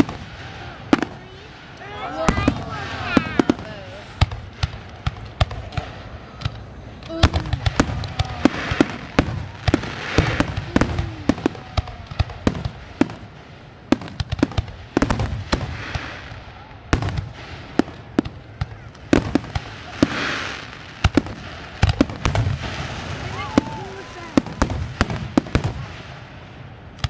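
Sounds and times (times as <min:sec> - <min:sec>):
fireworks bangs and pops: 0:00.0 - 0:27.0
fireworks crackling: 0:00.0 - 0:27.0.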